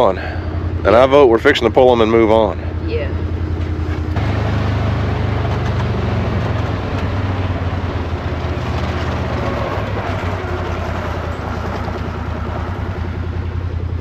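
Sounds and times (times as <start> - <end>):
engine running low drone: 0.0 - 14.0.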